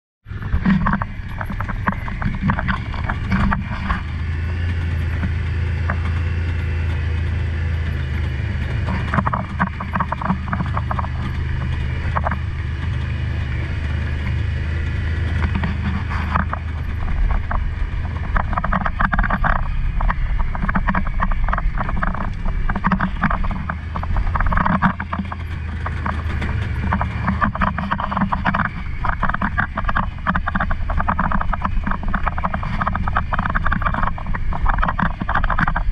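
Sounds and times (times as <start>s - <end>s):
vehicle engine drone: 0.2s - 35.9s
rattling on rough ground: 0.3s - 35.9s.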